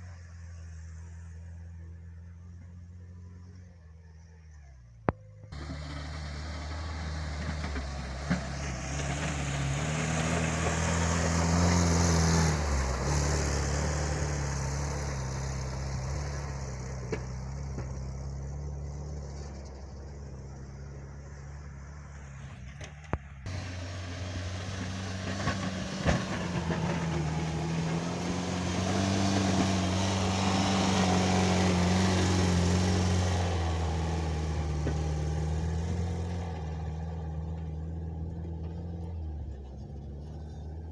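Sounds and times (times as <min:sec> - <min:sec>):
small tractor engine under load: 0:05.2 - 0:40.9.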